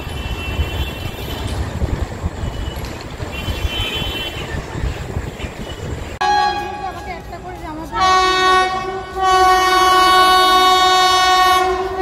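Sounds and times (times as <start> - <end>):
trains rumbling on tracks: 0.0 - 12.0.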